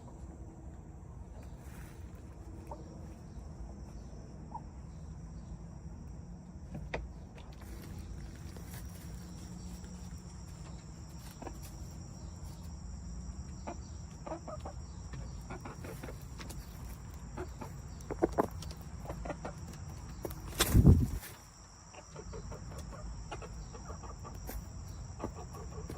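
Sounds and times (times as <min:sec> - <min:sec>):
chickens clucking: 0:01.4 - 0:04.9, 0:06.9 - 0:25.9.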